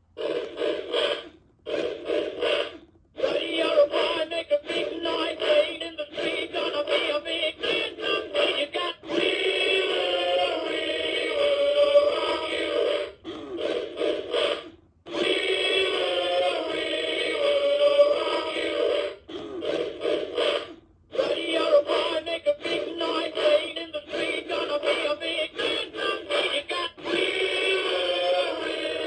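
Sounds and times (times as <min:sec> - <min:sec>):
synthesized voice singing over music: 0:03.2 - 0:13.7, 0:14.3 - 0:29.0.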